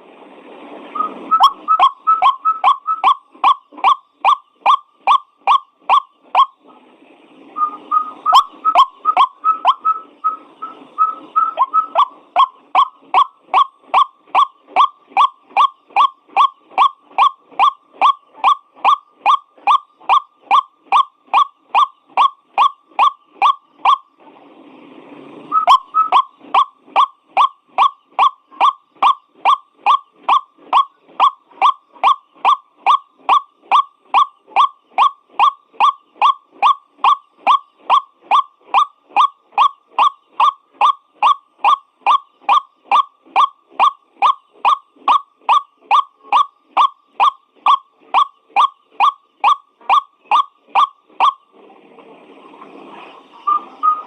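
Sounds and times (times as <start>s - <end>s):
bird calling kwak notes: 1.0s - 6.6s, 7.6s - 24.2s, 25.5s - 51.5s.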